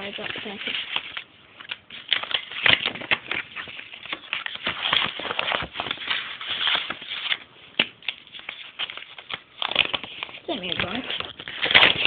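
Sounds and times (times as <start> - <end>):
paper envelope rustling: 0.0 - 12.0.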